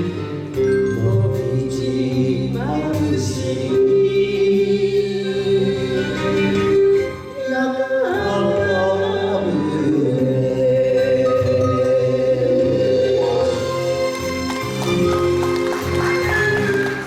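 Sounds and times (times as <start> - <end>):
song accompaniment melody: 0.0 - 17.0.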